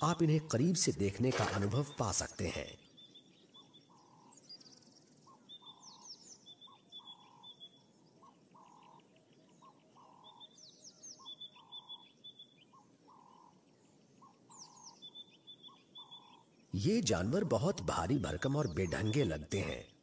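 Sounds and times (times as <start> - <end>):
faint bird calls: 0.0 - 20.0
soft bush ambience hiss: 0.0 - 20.0.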